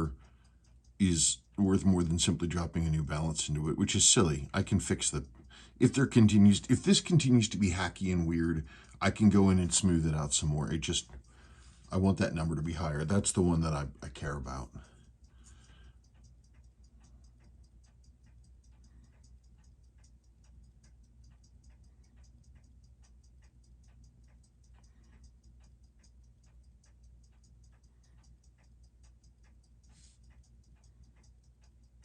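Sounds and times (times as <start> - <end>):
steady low hum: 0.0 - 32.0
watch ticking: 0.0 - 32.0.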